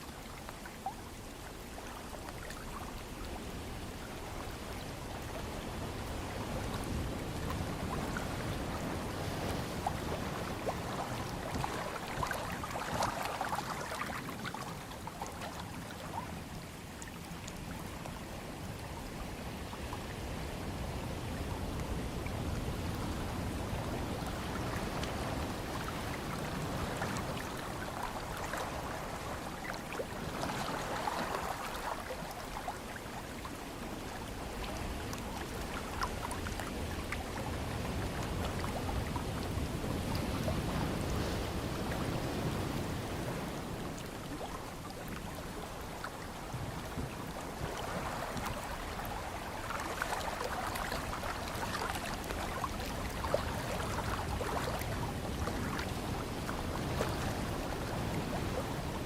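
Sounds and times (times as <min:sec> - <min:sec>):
ocean waves washing: 0:00.0 - 0:59.0.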